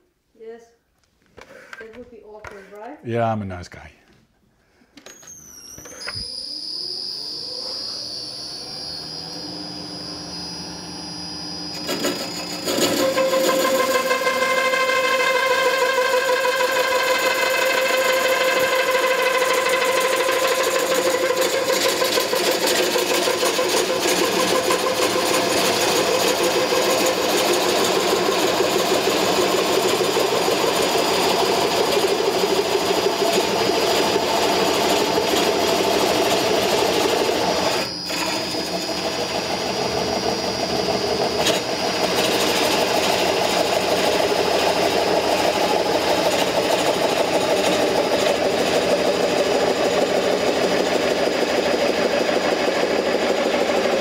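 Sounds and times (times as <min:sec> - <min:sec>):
lathe motor hum: 0:05.4 - 0:54.0.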